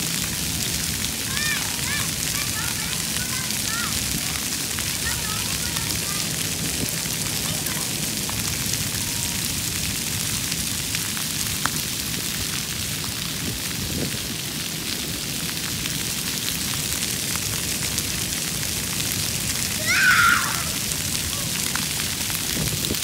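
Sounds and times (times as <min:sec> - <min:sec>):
water jets spraying: 0:00.0 - 0:23.0
water pattering on pavement: 0:00.0 - 0:23.0.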